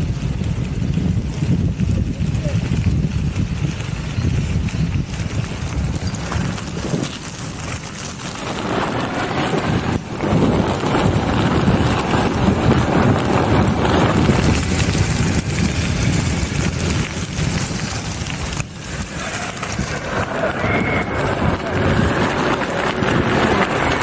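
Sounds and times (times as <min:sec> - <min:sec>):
tyres rolling over gravel: 0:00.0 - 0:24.0
wind noise on microphone: 0:00.0 - 0:24.0.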